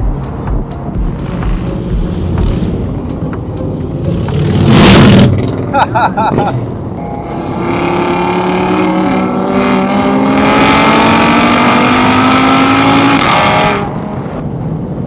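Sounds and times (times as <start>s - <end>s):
car engine accelerating hard: 1.1s - 14.5s.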